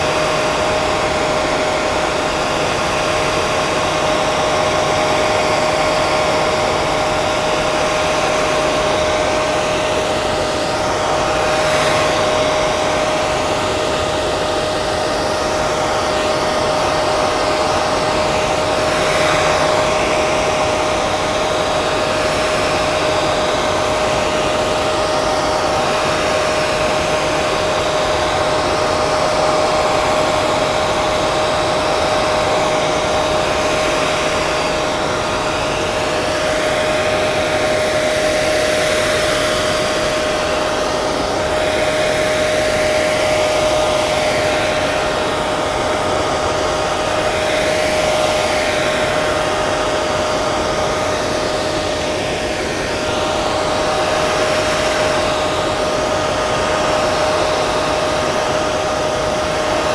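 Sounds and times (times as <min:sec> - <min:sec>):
hair dryer blowing air: 0:00.0 - 0:59.9
hair dryer motor whine: 0:00.0 - 0:59.9.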